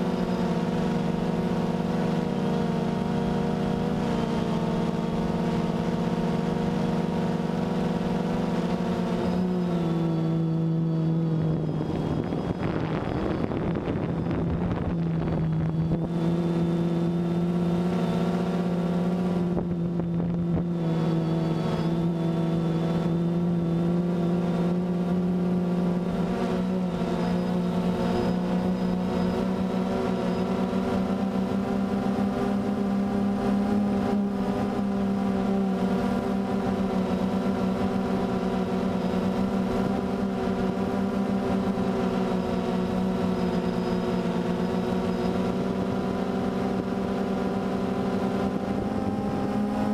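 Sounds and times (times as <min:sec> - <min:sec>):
drone propellers humming: 0:00.0 - 0:49.9.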